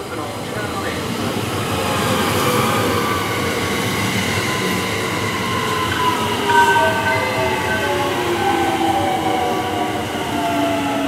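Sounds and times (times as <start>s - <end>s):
train wheel and running noise: 0.0s - 11.0s.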